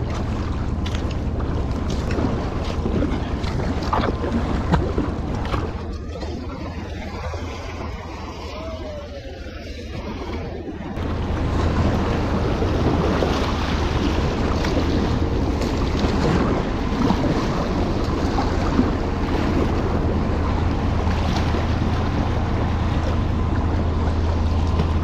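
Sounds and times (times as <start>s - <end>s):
water splashing against kayak: 0.0s - 25.0s.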